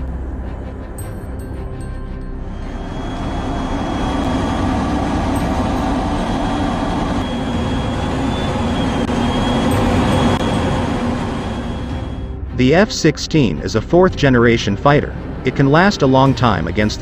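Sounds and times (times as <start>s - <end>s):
jet engine running: 1.7s - 17.0s.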